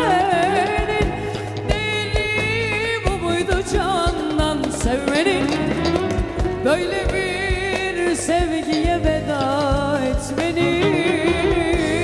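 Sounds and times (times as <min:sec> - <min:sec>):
ornamented melody line: 0:00.0 - 0:12.0.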